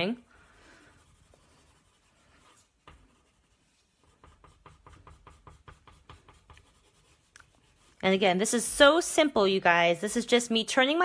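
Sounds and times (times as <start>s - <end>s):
pencil scratching on paper: 0.0s - 9.0s.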